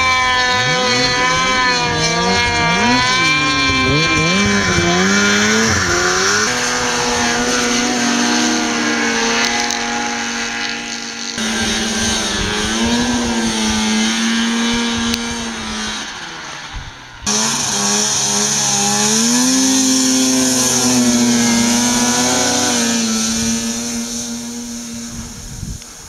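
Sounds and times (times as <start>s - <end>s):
snowmobile engines revving: 0.0s - 26.0s.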